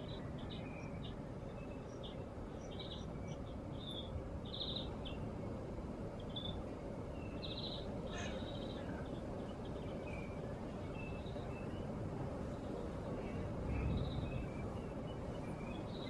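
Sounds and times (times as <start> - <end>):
low outdoor rumble: 0.0 - 16.0
small birds chirping: 0.0 - 16.0.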